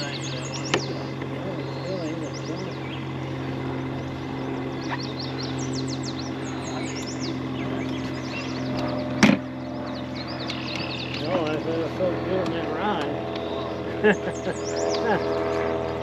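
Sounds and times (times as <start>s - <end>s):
birds chirping: 0.0s - 16.0s
boat motor hum: 0.0s - 16.0s.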